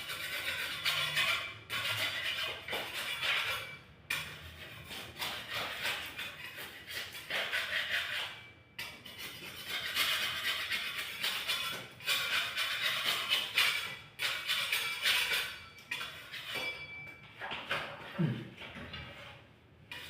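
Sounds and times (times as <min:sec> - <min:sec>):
scraping on a wall: 0:00.0 - 0:20.0.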